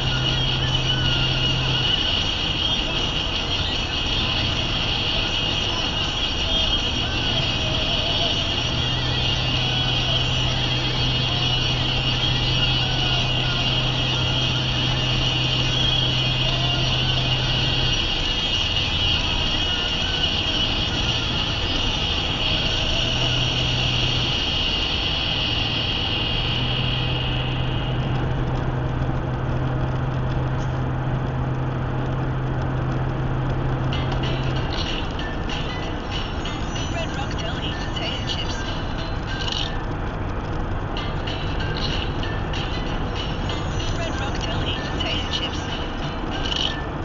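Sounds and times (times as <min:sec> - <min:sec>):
car road and engine noise: 0:00.0 - 0:47.0
low hum: 0:00.0 - 0:47.0.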